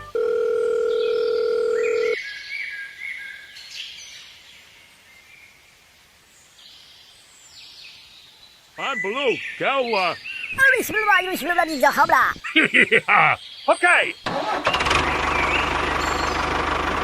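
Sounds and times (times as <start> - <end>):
birds chirping: 0.9 - 5.5, 6.4 - 17.0.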